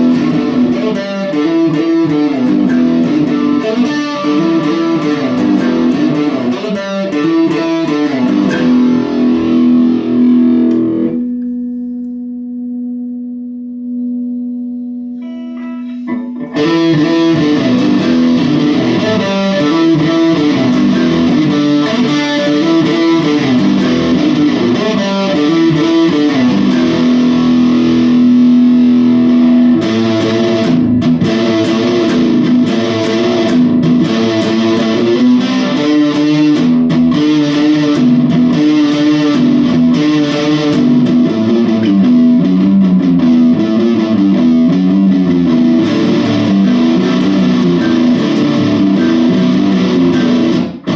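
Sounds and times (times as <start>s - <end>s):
distorted electric guitar riffs: 0.0s - 50.9s.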